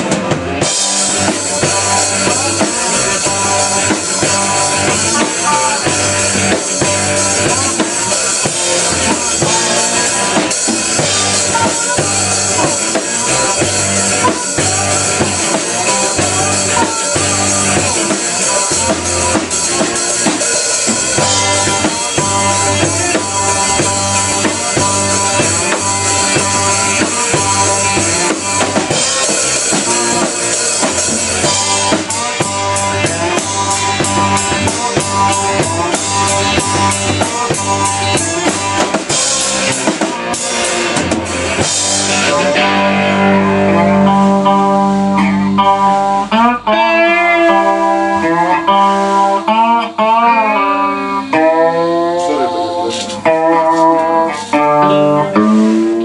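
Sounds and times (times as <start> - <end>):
drum kit: 0.0 - 56.0
electric bass: 0.0 - 56.0
electric guitar: 0.0 - 56.0
slide guitar: 0.0 - 56.0.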